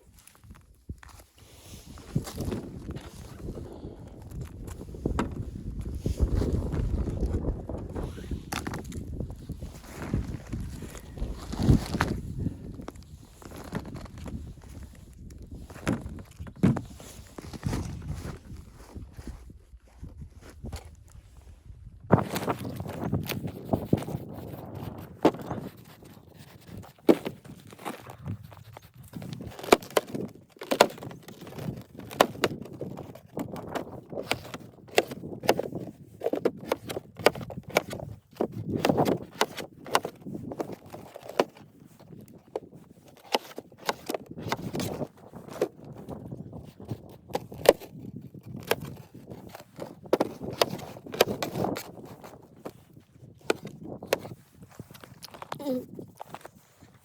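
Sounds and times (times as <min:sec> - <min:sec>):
rustling: 0:00.0 - 0:57.0.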